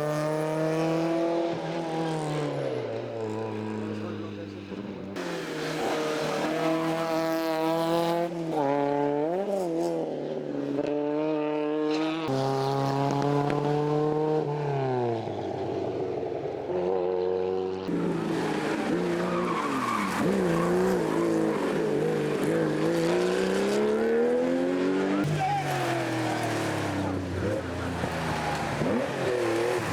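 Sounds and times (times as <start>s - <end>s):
rally car engines at full throttle: 0.0s - 29.9s.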